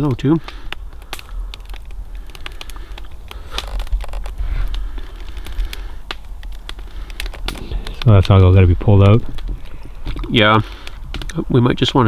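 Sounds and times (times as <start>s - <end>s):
campfire crackling: 0.0s - 12.0s
sharp pops and ticks: 0.0s - 12.0s.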